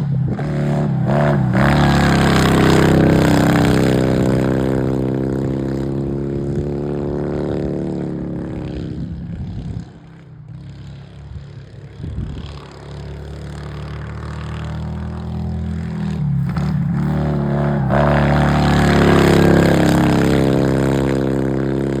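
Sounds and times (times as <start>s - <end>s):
lawnmower engine running: 0.0s - 22.0s.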